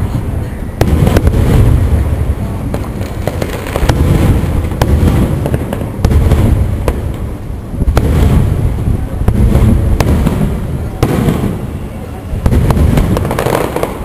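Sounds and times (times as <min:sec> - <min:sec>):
low rumble of booms: 0:00.0 - 0:11.8, 0:12.4 - 0:14.0.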